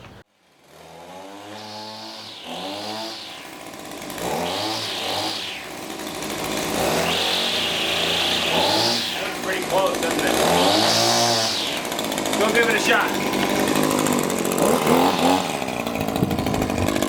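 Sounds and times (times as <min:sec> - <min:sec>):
string trimmer engine revving: 0:00.5 - 0:17.0.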